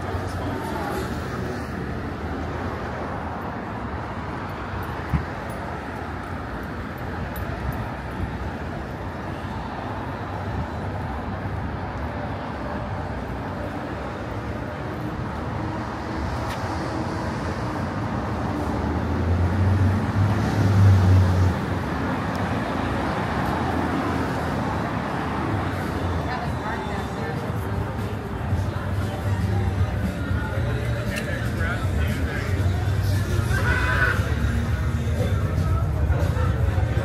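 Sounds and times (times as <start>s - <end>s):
passing vehicle engine rumble: 0.0s - 37.0s
street traffic noise: 0.0s - 37.0s.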